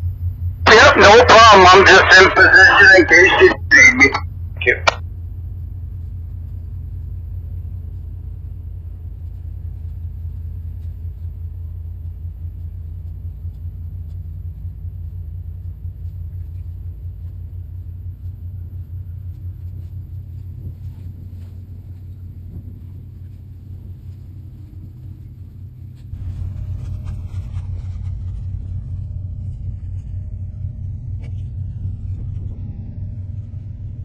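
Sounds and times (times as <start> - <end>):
diesel engine rumbling: 0.0 - 34.0.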